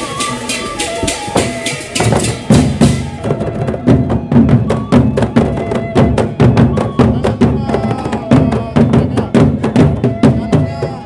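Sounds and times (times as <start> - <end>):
heavy barrel drum strokes: 0.0 - 11.0.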